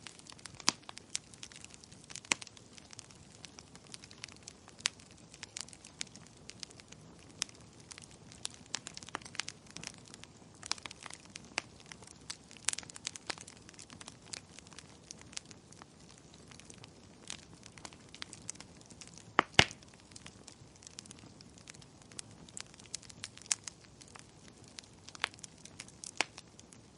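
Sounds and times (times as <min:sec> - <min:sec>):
wood fire crackling and popping: 0:00.0 - 0:26.9.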